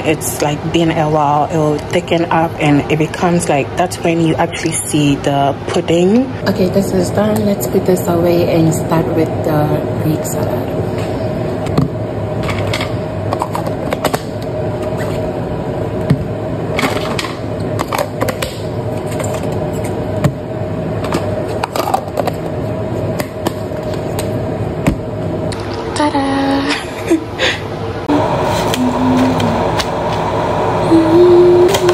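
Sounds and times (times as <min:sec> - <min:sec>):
steady background hum: 0:00.0 - 0:31.9.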